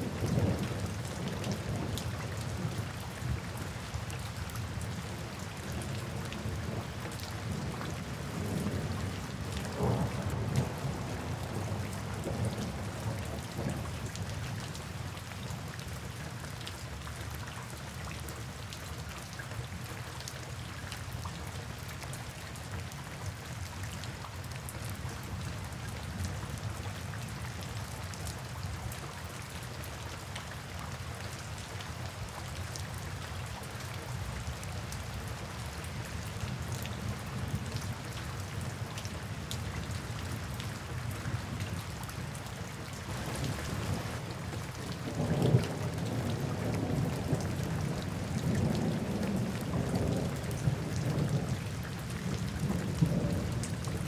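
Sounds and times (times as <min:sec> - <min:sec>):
rain hissing on surfaces: 0:00.0 - 0:54.0.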